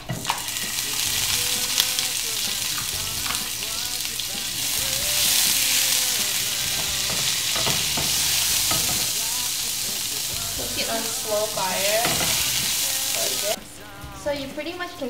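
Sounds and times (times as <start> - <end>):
sauce sizzling in hot oil: 0.0 - 15.0.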